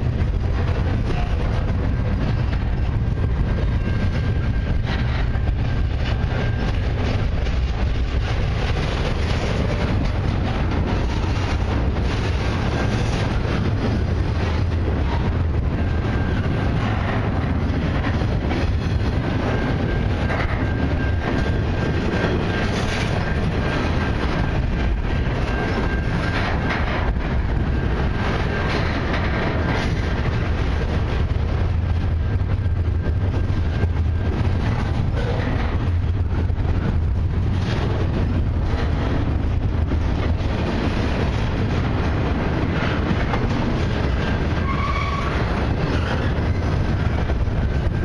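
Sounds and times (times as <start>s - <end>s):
knocks of rail cars: 0.0s - 48.0s
train wheels rumbling on rails: 0.0s - 48.0s.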